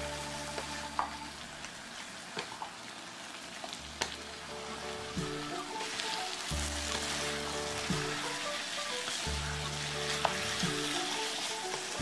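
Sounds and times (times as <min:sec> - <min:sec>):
background music with held notes: 0:00.0 - 0:01.7, 0:03.9 - 0:12.0
meat sizzling in a pan: 0:00.0 - 0:12.0.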